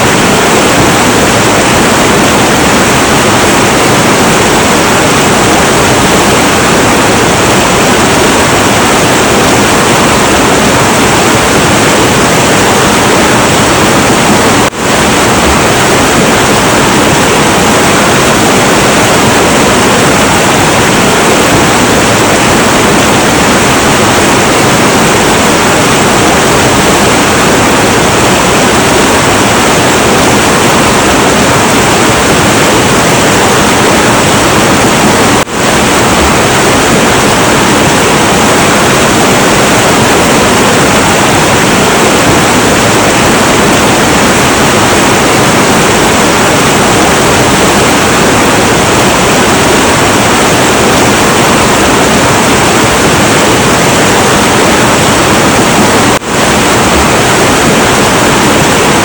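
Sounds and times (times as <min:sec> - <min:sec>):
turbulent river rushing: 0:00.0 - 0:59.0.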